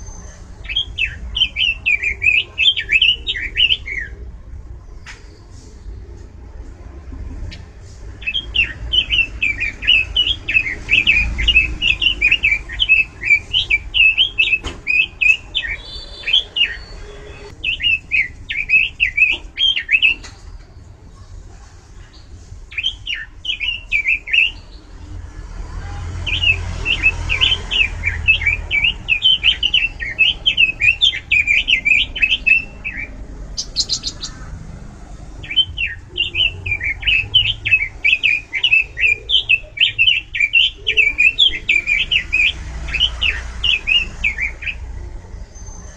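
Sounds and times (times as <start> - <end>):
bird warbling song: 0.0 - 4.3, 7.4 - 20.9, 22.0 - 25.0, 26.2 - 45.9.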